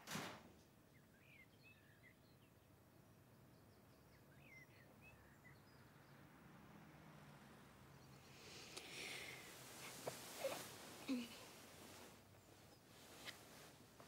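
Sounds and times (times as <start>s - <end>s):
distant birds chirping: 0.6s - 14.0s.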